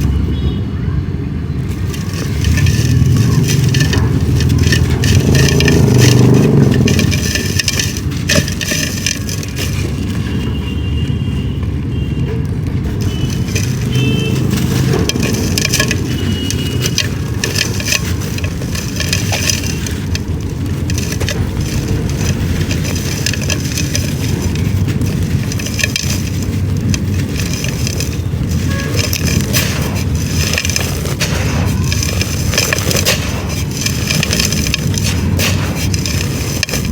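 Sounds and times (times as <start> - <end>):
dried clay crumbling by hand: 1.6 - 10.7, 12.4 - 36.9.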